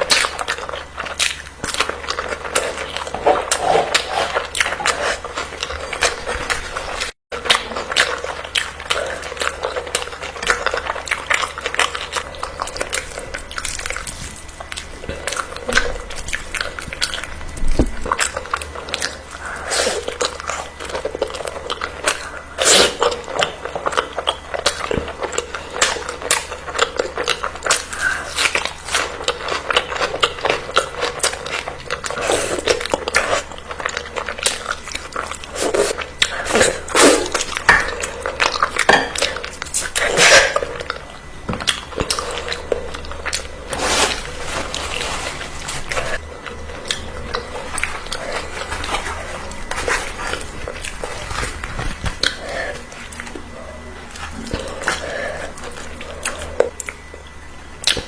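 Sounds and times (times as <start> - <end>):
person biting and chewing: 0.0 - 53.5.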